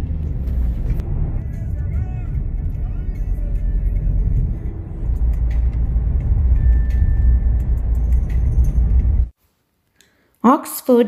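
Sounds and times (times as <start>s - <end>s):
car engine and road rumble: 0.0s - 9.4s.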